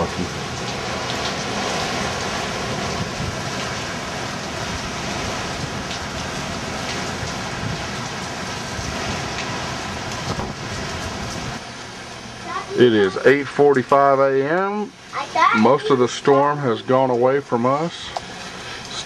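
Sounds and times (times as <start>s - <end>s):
storm rain pattering: 0.0s - 19.0s.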